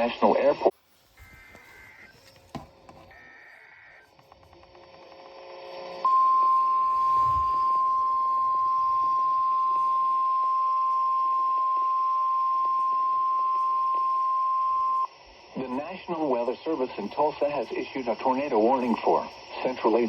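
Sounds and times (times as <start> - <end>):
steady alarm tone: 1.1 - 4.7, 5.5 - 18.8.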